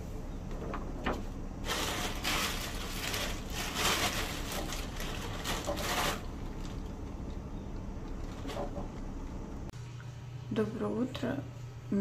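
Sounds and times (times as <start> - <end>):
rustling handling noise: 0.0 - 9.7.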